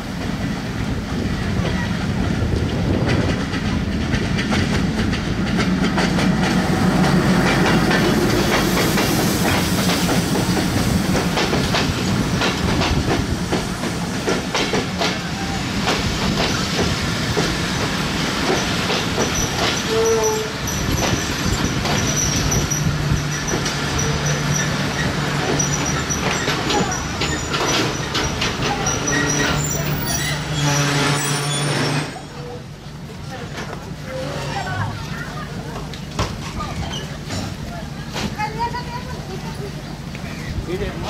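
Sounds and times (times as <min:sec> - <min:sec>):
diesel locomotive engine hum: 0:00.0 - 0:41.0
train wheels clacking over rail joints: 0:01.4 - 0:32.6, 0:33.3 - 0:39.7.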